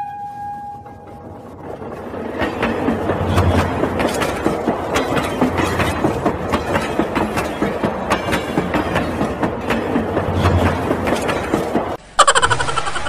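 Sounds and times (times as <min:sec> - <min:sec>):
wheels clattering over track: 0:00.6 - 0:12.0.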